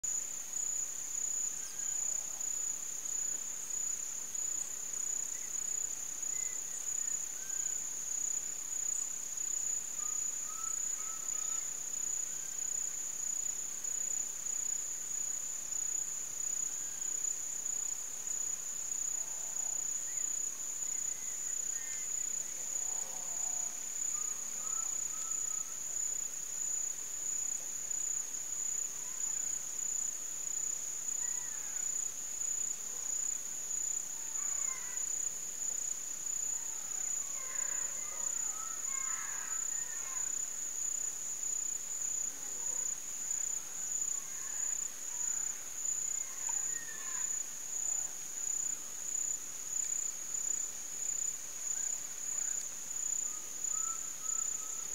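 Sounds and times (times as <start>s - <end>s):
insect chorus trilling: 0.1s - 54.9s.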